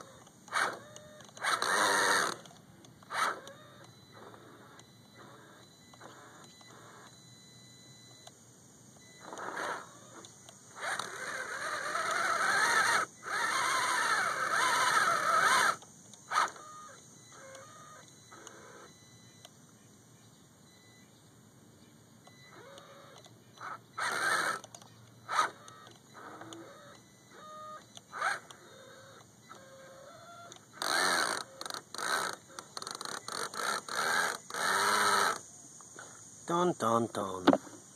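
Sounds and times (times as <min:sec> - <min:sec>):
electric motor whining: 0:00.0 - 0:07.4, 0:09.0 - 0:18.9, 0:22.5 - 0:36.2.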